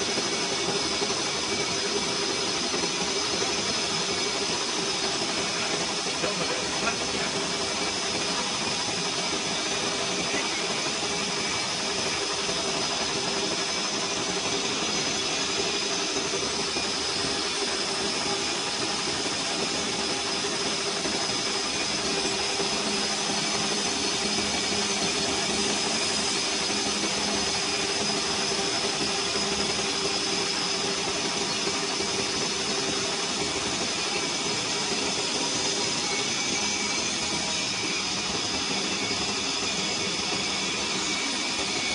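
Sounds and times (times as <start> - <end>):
lathe cutting hiss: 0.0 - 41.9
lathe whine: 0.0 - 41.9.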